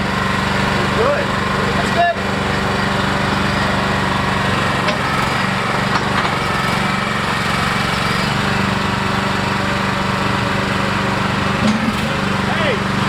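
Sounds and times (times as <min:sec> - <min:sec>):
small excavator engine running: 0:00.0 - 0:13.0.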